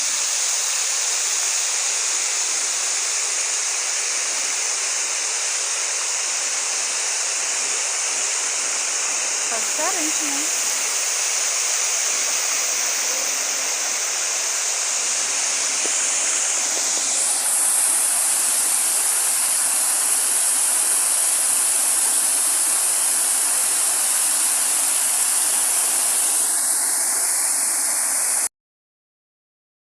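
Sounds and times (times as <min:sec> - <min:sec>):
water rushing with hiss: 0:00.0 - 0:28.5.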